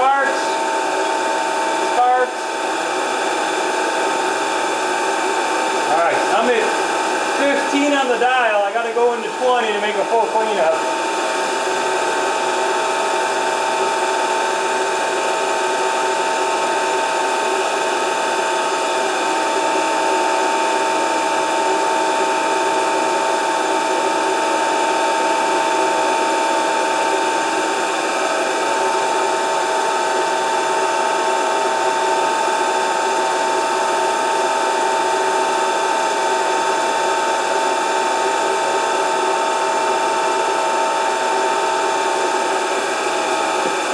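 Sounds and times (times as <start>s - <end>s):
grinding machine whining: 0.0s - 43.9s.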